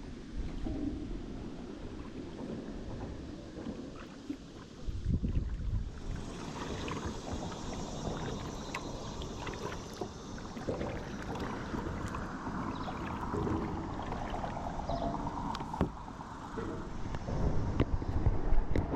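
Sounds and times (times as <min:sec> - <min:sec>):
water splashing and dripping: 0:01.5 - 0:18.9.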